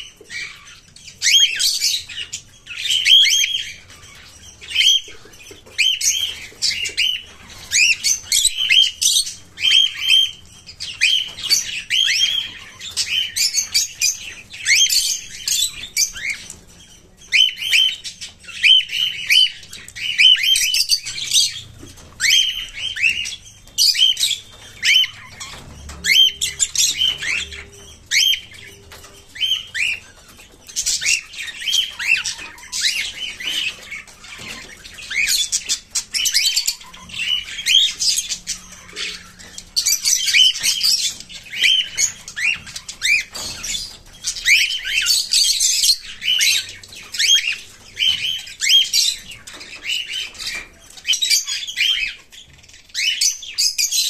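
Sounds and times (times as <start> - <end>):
cockatiels chirping: 0.0 - 54.0.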